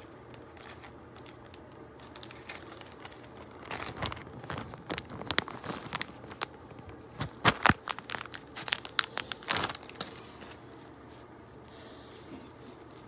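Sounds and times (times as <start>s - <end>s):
plastic bag crinkling: 0.4s - 11.2s.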